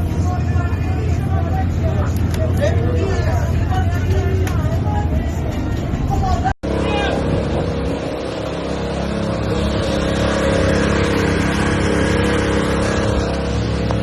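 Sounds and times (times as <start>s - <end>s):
constant rushing noise: 0.0s - 14.0s
vehicle engine running: 0.0s - 14.0s.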